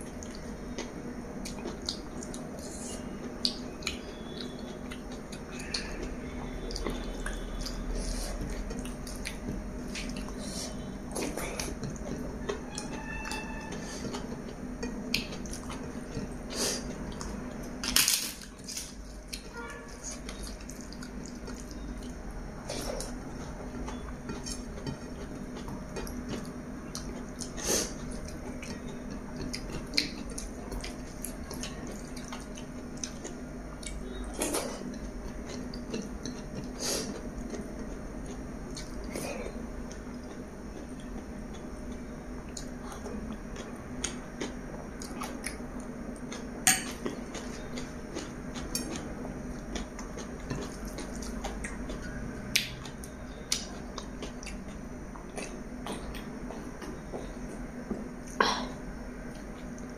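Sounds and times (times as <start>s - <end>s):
steady low hum: 0.0s - 59.9s
chewing: 0.1s - 17.8s, 18.4s - 58.5s.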